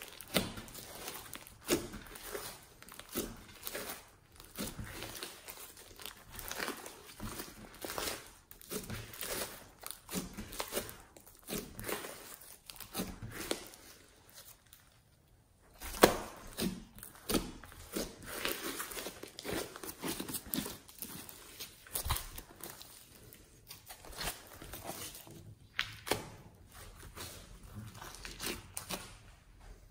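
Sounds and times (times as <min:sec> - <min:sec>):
slime squelching and crackling: 0:00.0 - 0:29.9.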